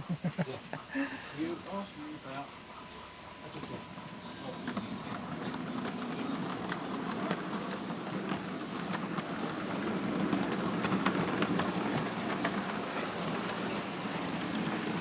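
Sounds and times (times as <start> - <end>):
model train rumbling hiss: 0.9 - 15.0
clicks of model train: 1.4 - 15.0.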